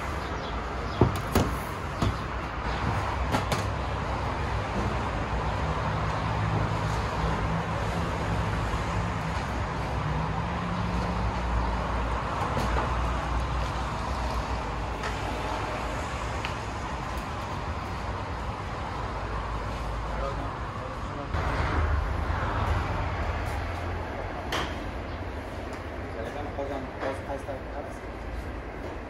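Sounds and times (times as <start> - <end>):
passing cars: 0.0 - 29.0.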